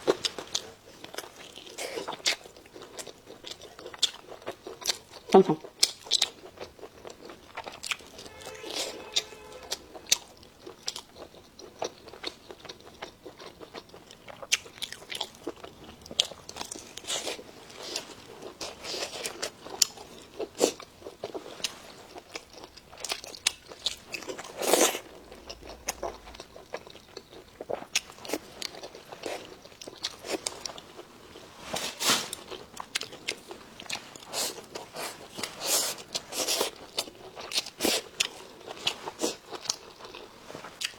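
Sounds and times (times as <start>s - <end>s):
crunching and chewing food: 0.0s - 40.9s.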